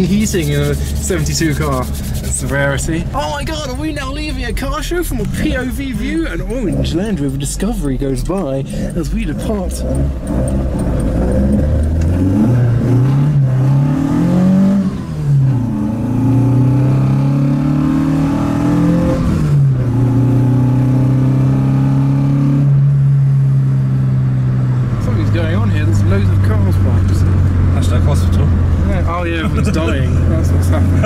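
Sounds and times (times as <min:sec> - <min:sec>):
car engine accelerating from cabin: 0:00.0 - 0:31.0.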